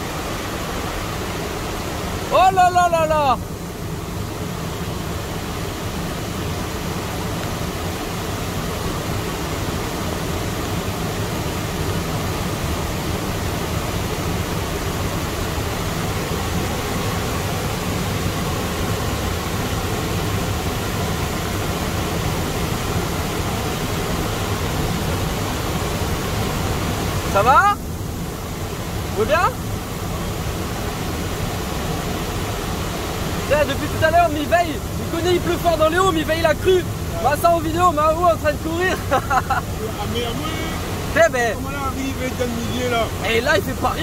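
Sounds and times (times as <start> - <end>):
floodwater rushing over weir: 0.0 - 44.0.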